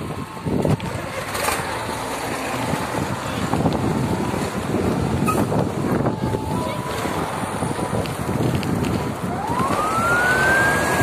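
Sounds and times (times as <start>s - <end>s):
vehicle noise: 0.0s - 11.0s
wind buffeting microphone: 0.0s - 11.0s.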